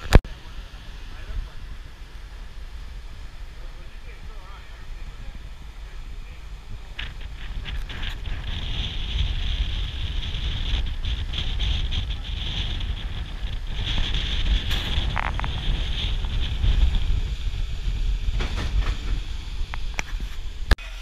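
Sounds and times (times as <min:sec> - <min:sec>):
wind buffeting microphone: 0:00.0 - 0:20.8
riverboat engine rumble: 0:00.0 - 0:21.0.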